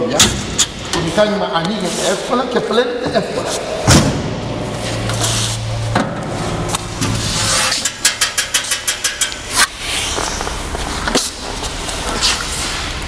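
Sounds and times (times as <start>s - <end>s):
machine low hum: 2.5s - 13.0s.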